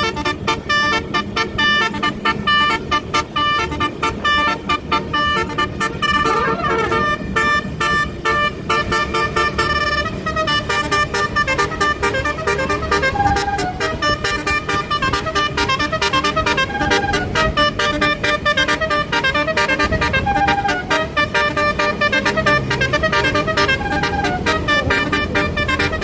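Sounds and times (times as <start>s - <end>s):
multi-tone air horns playing tunes: 0.0s - 26.0s
sweeping horn tones: 0.0s - 26.0s.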